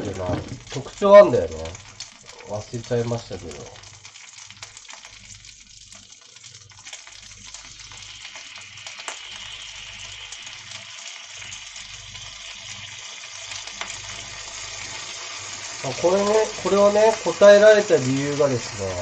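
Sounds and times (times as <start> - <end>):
crackles and pops: 0.0 - 19.0
food sizzling in skillet: 0.0 - 19.0.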